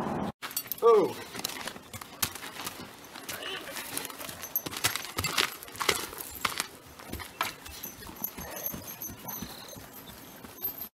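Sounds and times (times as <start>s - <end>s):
horse hooves crunching on gravel: 0.4s - 10.9s.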